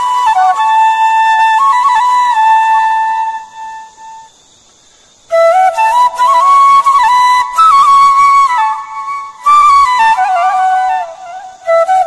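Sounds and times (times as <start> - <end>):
flute playing slow melody: 0.0 - 4.4, 5.3 - 12.0.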